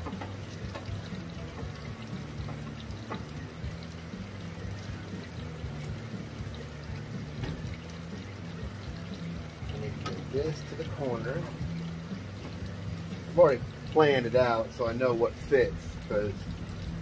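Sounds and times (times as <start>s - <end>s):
food sizzling and bubbling: 0.0s - 17.0s.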